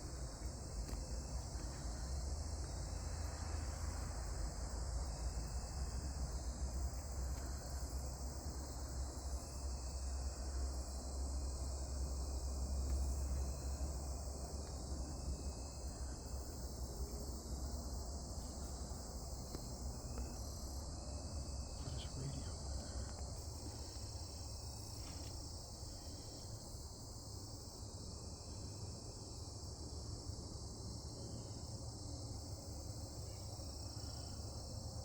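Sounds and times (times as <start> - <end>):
crickets and insects chirring: 0.0 - 35.0.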